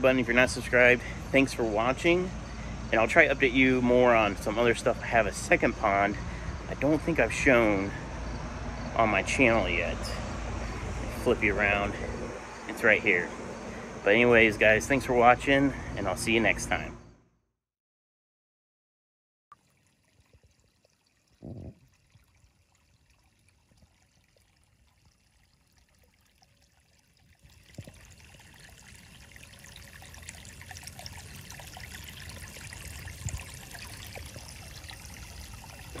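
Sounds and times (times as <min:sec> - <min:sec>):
water trickling and splashing: 0:00.0 - 0:16.8, 0:19.5 - 0:36.0.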